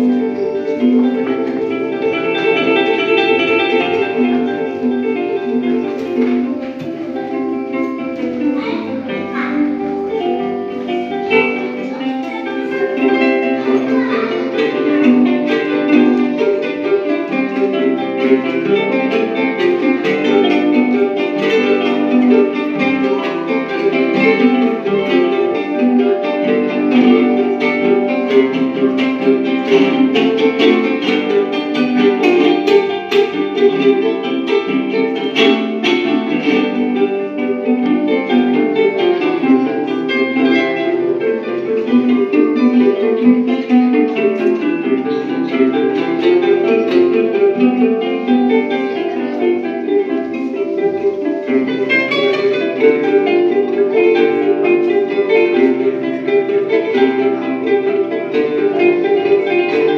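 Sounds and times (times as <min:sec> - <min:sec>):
acoustic guitar strumming: 0:00.0 - 0:59.9
ukulele strumming: 0:00.0 - 0:59.9.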